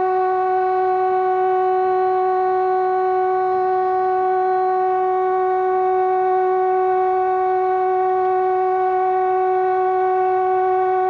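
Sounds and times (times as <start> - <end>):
train horn long note: 0.0 - 11.0.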